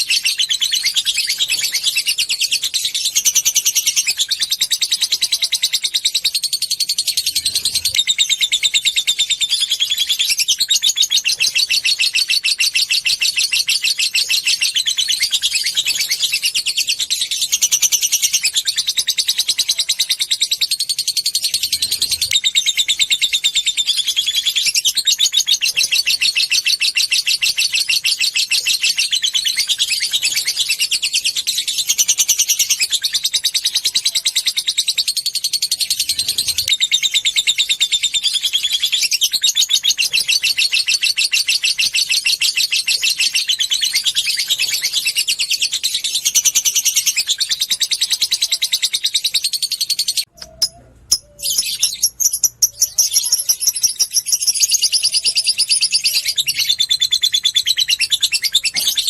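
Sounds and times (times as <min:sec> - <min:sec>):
lovebird chattering trill: 0:00.0 - 0:59.0.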